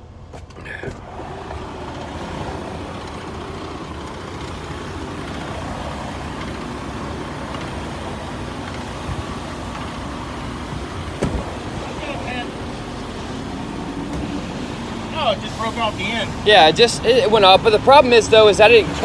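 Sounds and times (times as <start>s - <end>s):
outdoor road noise: 0.0s - 19.0s
truck engine idling: 0.0s - 19.0s.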